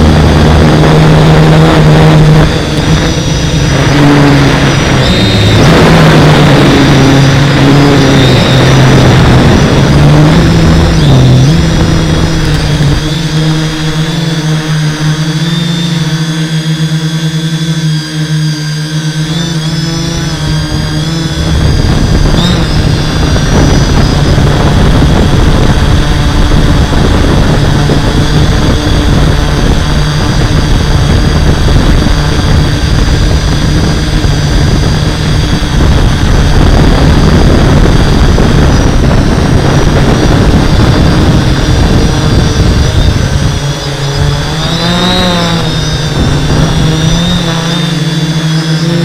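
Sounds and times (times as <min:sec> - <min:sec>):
drone motors and propellers: 0:00.0 - 0:49.0
prop wash rumble on microphone: 0:00.0 - 0:49.0.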